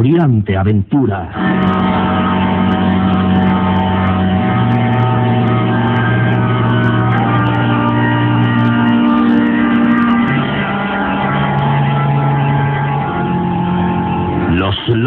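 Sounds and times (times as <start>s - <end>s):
music of long held chords: 1.3s - 15.0s.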